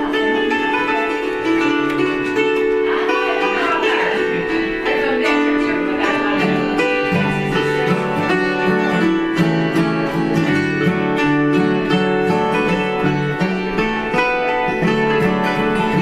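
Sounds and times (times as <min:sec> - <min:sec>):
acoustic guitar: 0:00.0 - 0:16.0
hammered dulcimer: 0:00.0 - 0:16.0.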